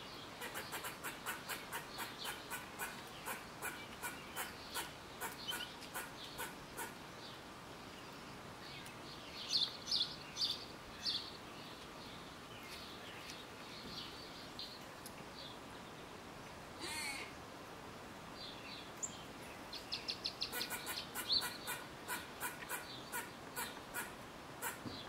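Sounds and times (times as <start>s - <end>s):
small birds chirping: 0.0s - 17.3s, 18.3s - 25.0s.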